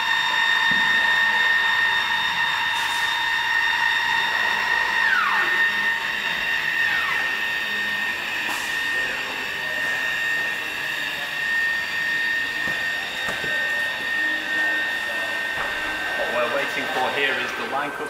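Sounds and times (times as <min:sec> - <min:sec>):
machine high whine: 0:00.0 - 0:18.0.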